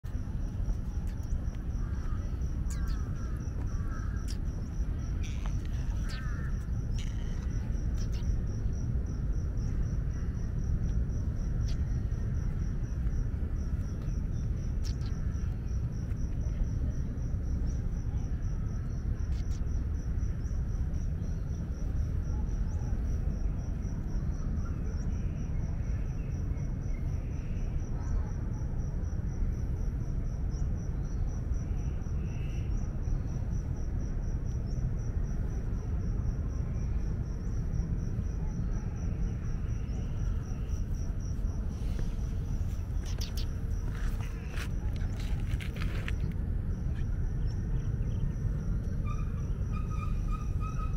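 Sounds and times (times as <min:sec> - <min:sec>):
insects chirring: 0:00.0 - 0:50.9
low outdoor rumble: 0:00.0 - 0:50.9.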